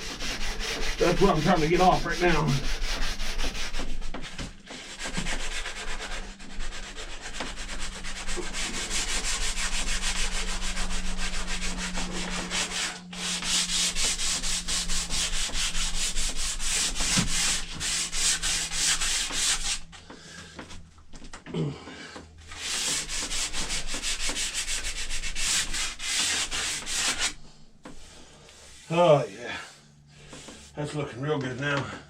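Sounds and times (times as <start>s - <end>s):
sandpaper rubbing on wood: 0.0s - 19.9s, 22.5s - 31.0s.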